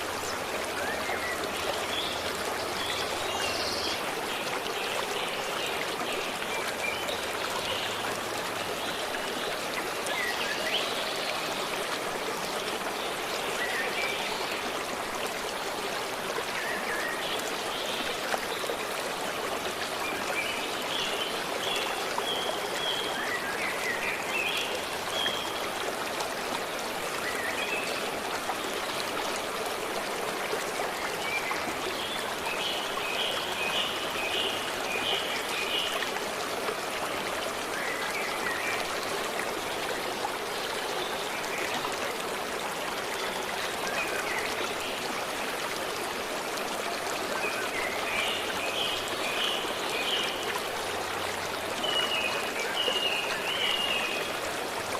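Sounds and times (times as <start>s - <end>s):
stream running: 0.0s - 54.9s.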